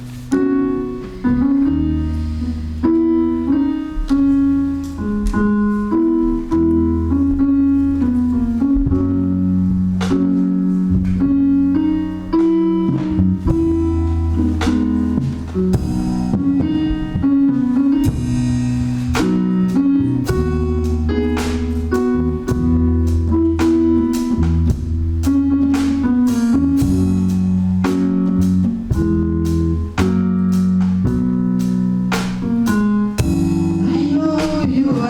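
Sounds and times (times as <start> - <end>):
live gospel band playing: 0.0 - 35.0.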